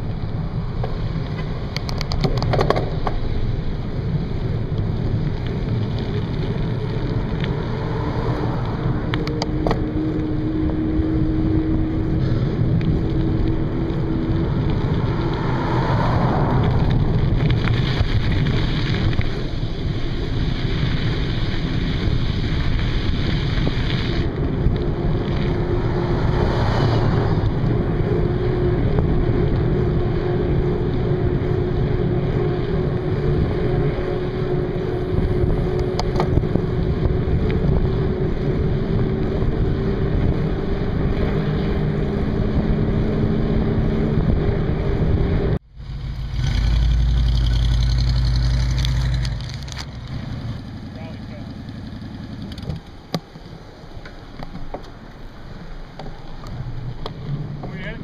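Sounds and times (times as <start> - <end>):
road noise: 0.0 - 58.0
wind rushing over microphone: 0.0 - 58.0.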